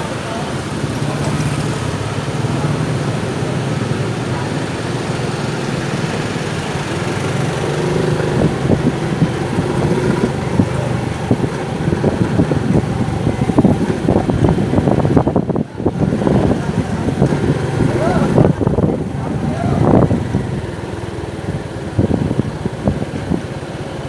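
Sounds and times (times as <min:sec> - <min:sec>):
motorcycle engine running: 0:00.0 - 0:24.0
rough wind buffeting: 0:00.0 - 0:24.0.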